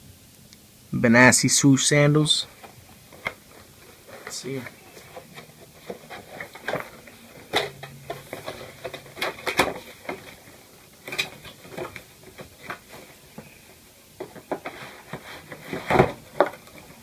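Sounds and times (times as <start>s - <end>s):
shoebox handled and opened: 2.5s - 17.0s.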